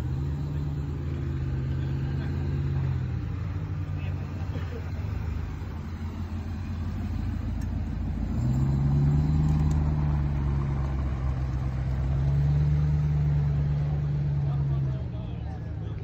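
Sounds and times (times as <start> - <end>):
deep engine drone: 0.0 - 16.0.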